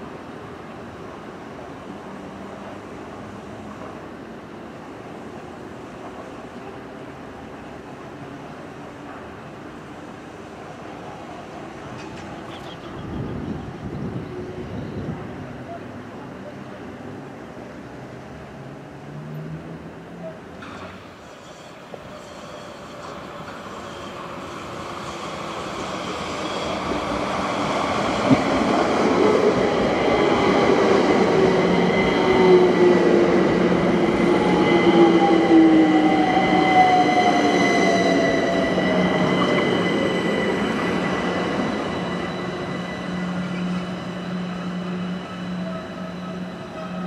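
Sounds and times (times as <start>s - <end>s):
electric train rumbling past: 0.0s - 47.0s.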